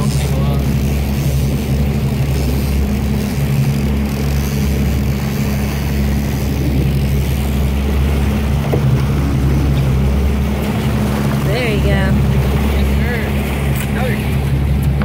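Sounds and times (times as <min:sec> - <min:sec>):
boat engine droning: 0:00.0 - 0:15.0
water washing past hull: 0:00.0 - 0:15.0.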